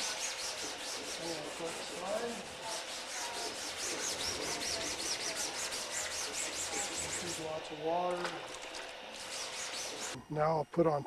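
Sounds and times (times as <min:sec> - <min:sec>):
wet sanding rubbing strokes: 0:00.0 - 0:07.7, 0:08.5 - 0:10.2.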